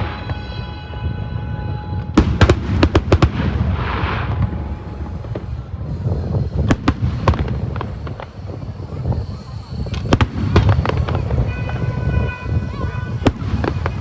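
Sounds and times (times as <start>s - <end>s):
steady low rumble: 0.0s - 14.0s
firework shells bursting: 1.7s - 14.0s.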